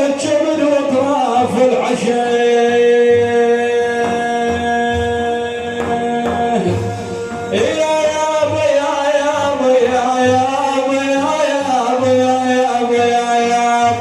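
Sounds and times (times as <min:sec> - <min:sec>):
hand drums beating: 0:00.0 - 0:14.0
person singing devotional song: 0:00.0 - 0:14.0.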